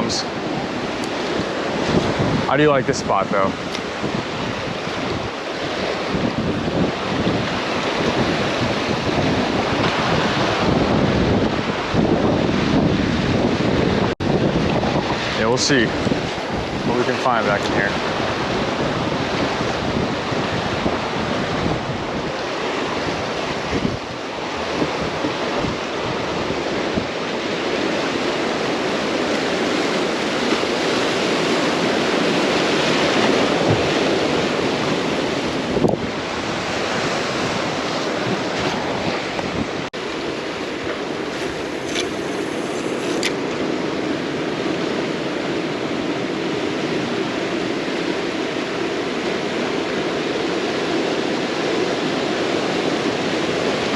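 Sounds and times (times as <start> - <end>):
surf on rocky shore: 0.0 - 53.9
wind on microphone: 0.0 - 53.9.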